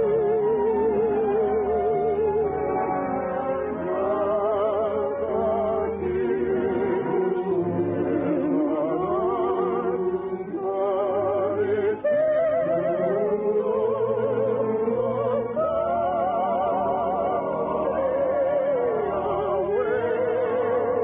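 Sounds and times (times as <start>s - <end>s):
orchestra playing operetta music: 0.0s - 21.0s.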